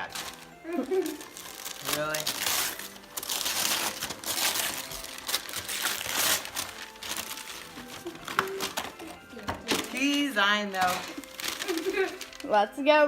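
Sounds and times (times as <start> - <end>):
wrapping paper crinkling: 0.0 - 12.8.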